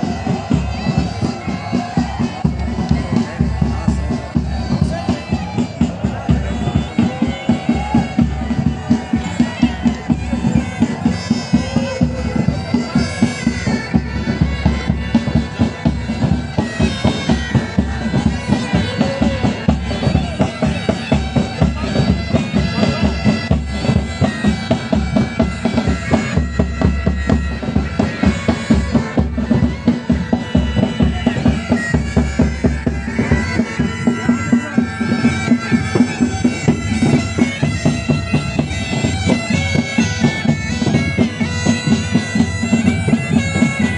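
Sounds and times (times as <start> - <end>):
bagpipes playing: 0.0 - 43.9
marching drum beat: 0.0 - 43.9.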